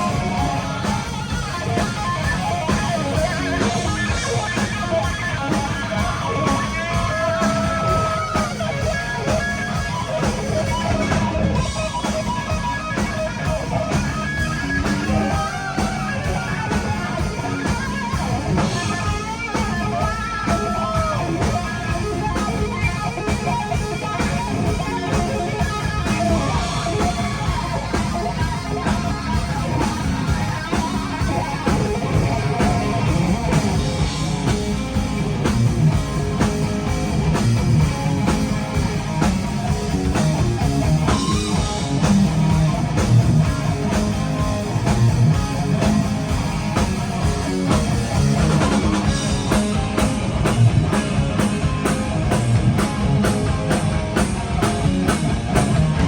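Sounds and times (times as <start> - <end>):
bass guitar: 0.0 - 56.0
distorted electric guitar: 0.0 - 56.0
drum kit: 0.0 - 56.0.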